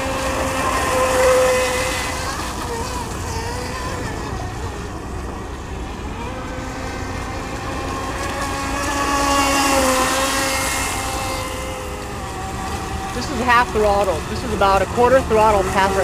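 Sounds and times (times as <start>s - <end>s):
electric motor whining: 0.0s - 16.0s
hull skimming water: 0.0s - 16.0s.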